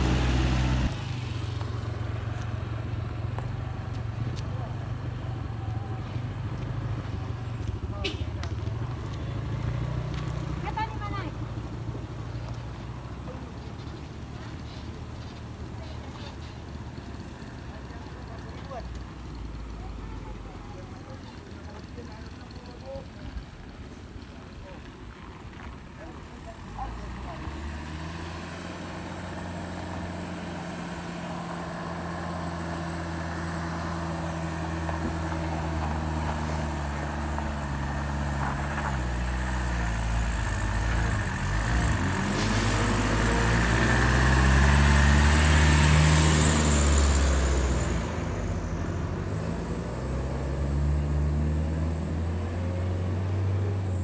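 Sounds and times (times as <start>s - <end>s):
vehicle engine approaching: 0.0s - 54.0s.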